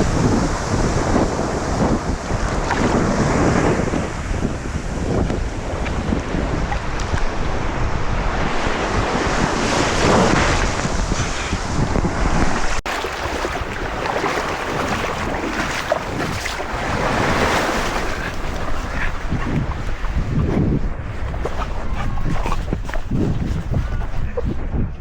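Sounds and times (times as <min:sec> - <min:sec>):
ocean waves breaking on beach: 0:00.0 - 0:24.8
wind buffeting microphone: 0:00.0 - 0:25.0.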